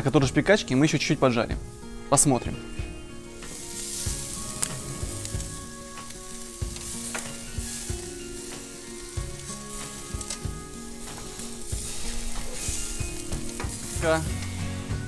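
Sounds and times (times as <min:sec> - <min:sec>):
sausages sizzling on a grill: 0:00.0 - 0:15.0.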